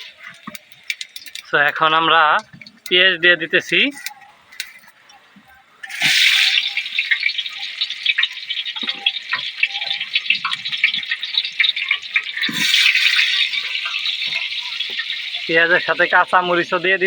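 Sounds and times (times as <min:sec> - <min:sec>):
onions sizzling in hot oil: 0:00.0 - 0:04.0, 0:05.8 - 0:17.0.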